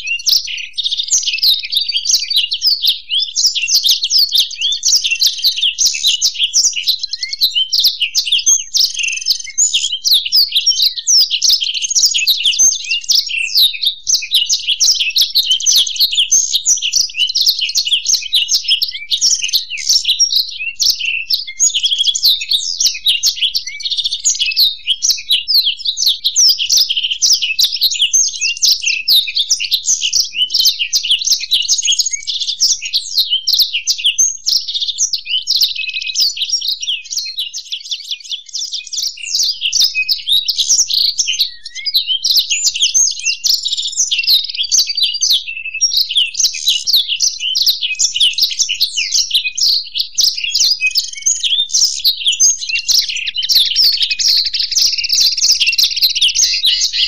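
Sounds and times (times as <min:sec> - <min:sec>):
birds twittering and trilling: 0:00.0 - 0:57.0.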